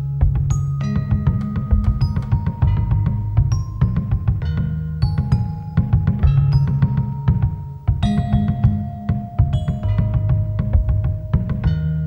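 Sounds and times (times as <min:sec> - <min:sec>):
quick struck notes: 0:00.0 - 0:12.0
steady low bass: 0:00.0 - 0:12.0.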